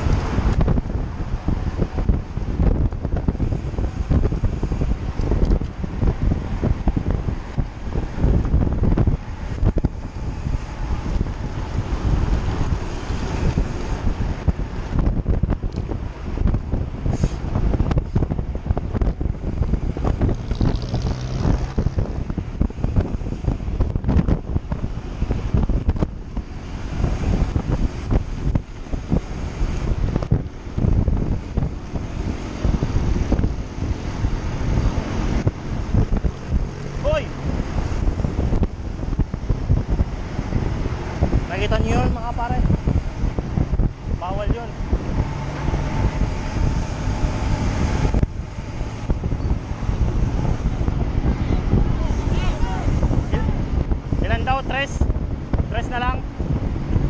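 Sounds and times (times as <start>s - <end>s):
bicycle road noise on concrete: 0.0s - 57.0s
wind buffeting microphone: 0.0s - 57.0s.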